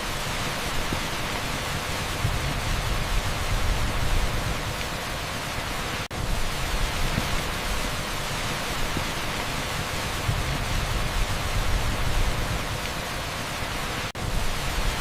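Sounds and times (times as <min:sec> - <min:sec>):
torrential rain on asphalt: 0:00.0 - 0:15.0.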